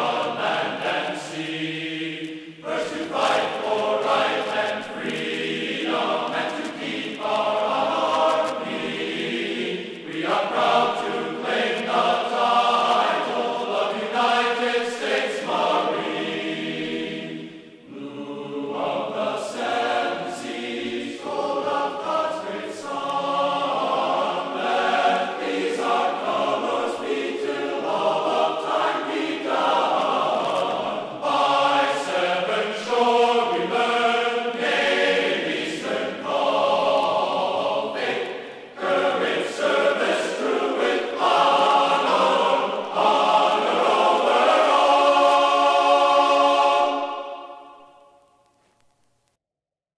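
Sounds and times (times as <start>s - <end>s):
choir singing held chords: 0.0s - 48.5s.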